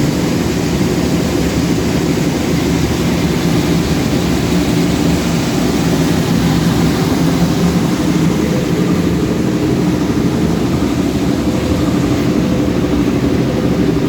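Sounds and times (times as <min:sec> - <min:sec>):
machine humming with low drone: 0:00.0 - 0:14.0.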